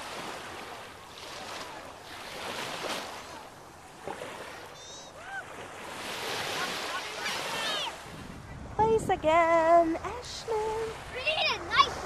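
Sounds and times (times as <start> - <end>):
small surf washing in: 0.0 - 12.0.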